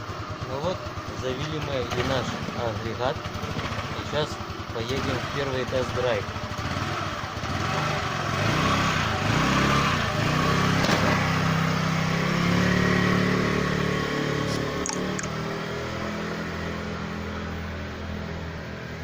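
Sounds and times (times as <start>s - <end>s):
scooter engine revving: 0.0s - 18.9s.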